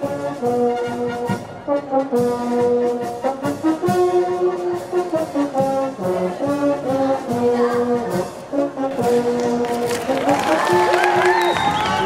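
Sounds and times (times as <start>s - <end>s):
brass band music: 0.0s - 12.0s
drum beats: 0.0s - 12.0s.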